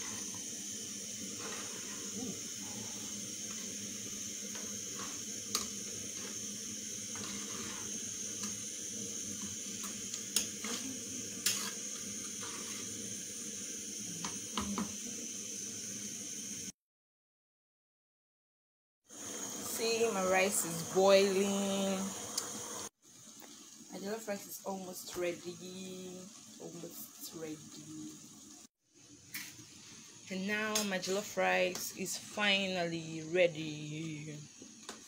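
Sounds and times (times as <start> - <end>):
pot simmering with hiss: 0.0 - 16.8, 19.1 - 35.0.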